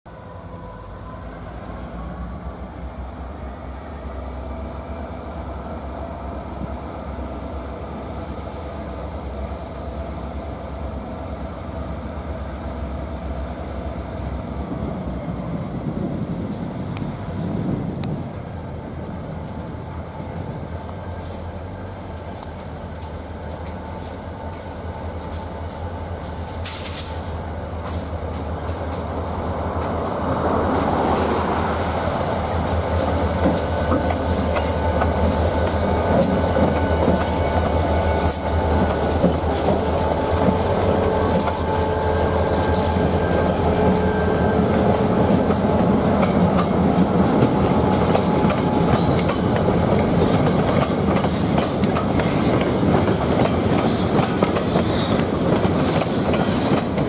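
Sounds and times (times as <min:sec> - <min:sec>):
high wheel squeal: 0:00.1 - 0:57.0
locomotive engine rumble: 0:00.2 - 0:57.0.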